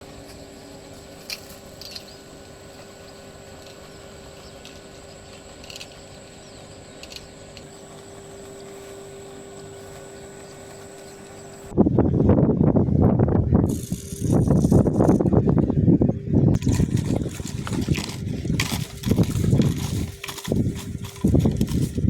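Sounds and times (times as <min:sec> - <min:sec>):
high whine: 0:00.0 - 0:22.0
thin steady hum: 0:00.0 - 0:22.0.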